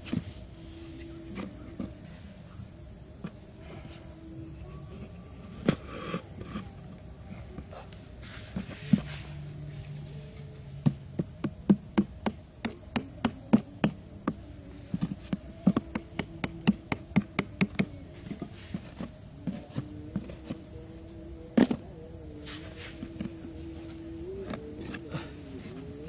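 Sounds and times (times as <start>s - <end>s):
flies buzzing: 0.0s - 26.0s.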